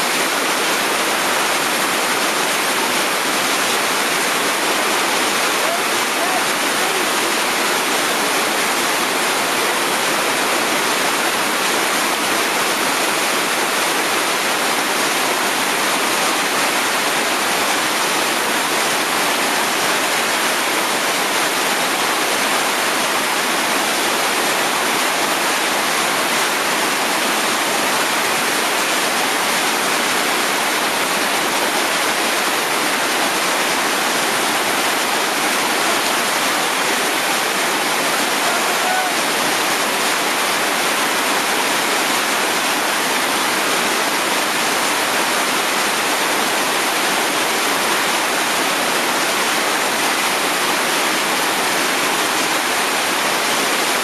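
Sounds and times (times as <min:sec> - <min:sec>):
whitewater rapid rushing: 0:00.0 - 0:54.0.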